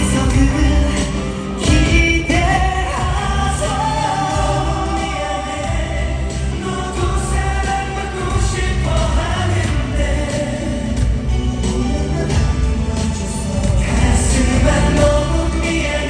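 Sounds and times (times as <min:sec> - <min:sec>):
live pop music with voices: 0:00.0 - 0:16.0.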